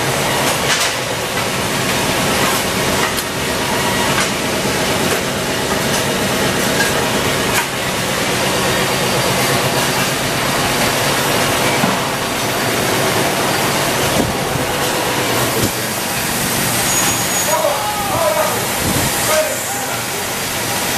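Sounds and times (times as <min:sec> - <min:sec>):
machinery hiss and hum: 0:00.0 - 0:20.9.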